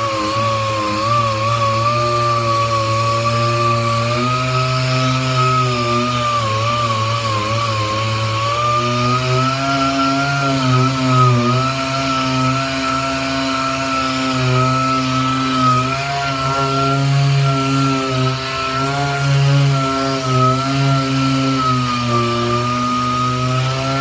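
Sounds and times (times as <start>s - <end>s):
sander on metal: 0.0s - 24.0s.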